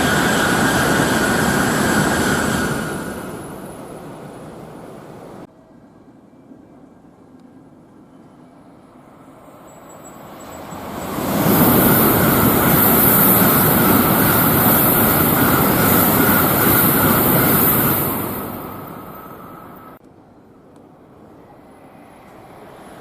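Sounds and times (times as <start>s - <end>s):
high-speed train rushing past: 0.0s - 6.2s, 8.5s - 20.0s, 21.5s - 23.0s.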